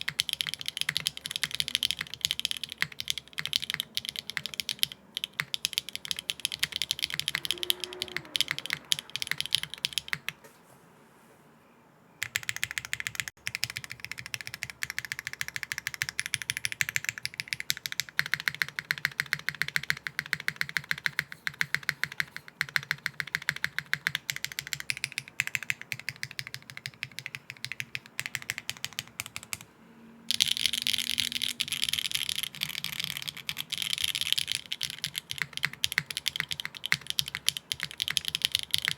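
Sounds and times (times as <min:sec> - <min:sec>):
fast typing on mechanical keyboard: 0:00.0 - 0:10.4, 0:12.2 - 0:29.6, 0:30.3 - 0:38.9.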